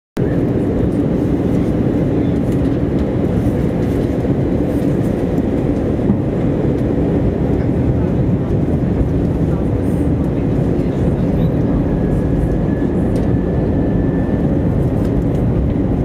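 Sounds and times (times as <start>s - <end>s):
airplane cabin engine rumble: 0.2s - 16.0s.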